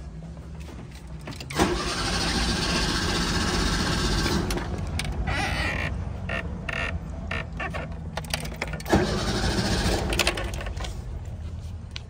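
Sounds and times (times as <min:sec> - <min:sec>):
engine cranking by starter motor: 0:01.0 - 0:11.0.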